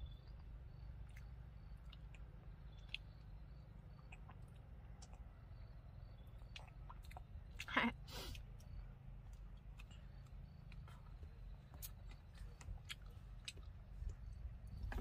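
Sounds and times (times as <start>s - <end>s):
low steady rumble: 0.0s - 15.0s
lip smacks and chewing clicks: 0.3s - 7.7s, 8.3s - 15.0s.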